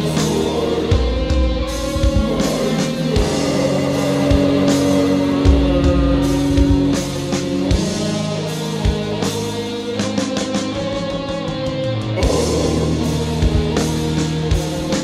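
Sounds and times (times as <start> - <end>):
held guitar chords: 0.0 - 15.0.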